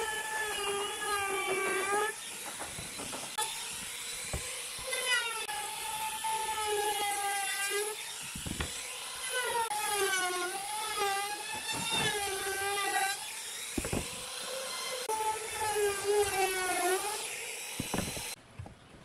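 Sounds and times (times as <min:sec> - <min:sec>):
trim router cutting wood: 0:00.0 - 0:18.4.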